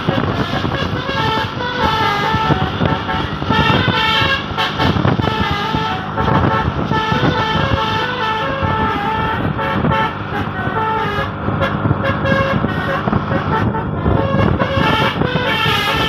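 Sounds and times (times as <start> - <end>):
bus horn playing a tune: 0.0 - 16.0
steady low rumble: 0.0 - 16.0.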